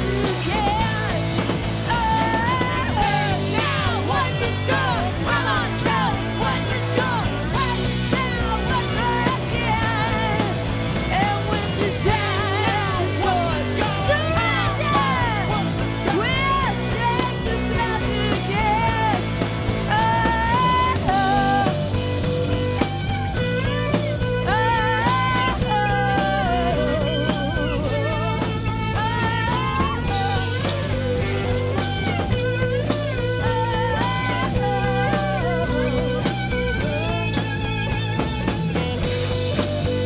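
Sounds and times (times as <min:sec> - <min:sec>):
woman singing: 0:00.0 - 0:22.7, 0:23.6 - 0:37.8
bass guitar: 0:00.0 - 0:40.0
drum kit beat: 0:00.0 - 0:40.0
electric guitars: 0:00.0 - 0:40.0.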